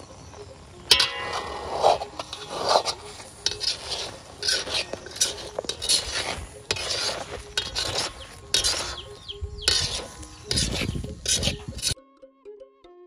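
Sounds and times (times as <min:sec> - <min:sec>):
metal skimmer scraping a metal pan: 0:00.9 - 0:12.0.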